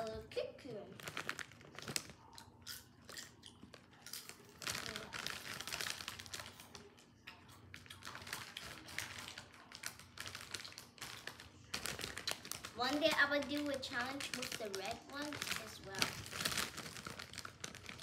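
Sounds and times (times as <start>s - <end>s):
plastic bag crinkling: 0.7s - 2.6s, 3.6s - 18.0s
chips crunching as chewed: 1.0s - 18.0s.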